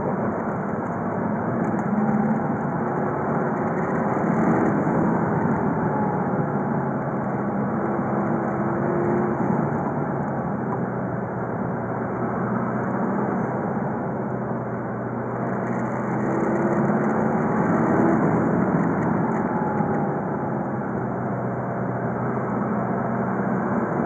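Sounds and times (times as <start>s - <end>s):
diesel car engine running: 0.0s - 24.0s
road and tyre noise: 0.0s - 24.0s.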